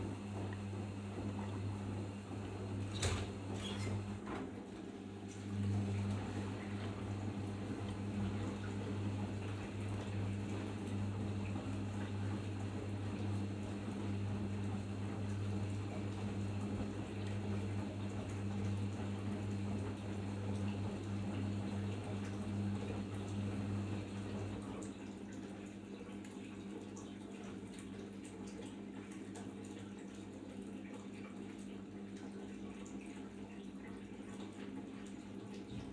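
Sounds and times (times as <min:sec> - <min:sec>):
washing machine hum: 0:00.0 - 0:35.9.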